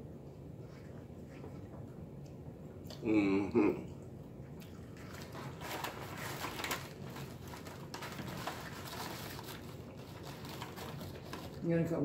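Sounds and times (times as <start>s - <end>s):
pizza being chewed: 0.6s - 11.6s.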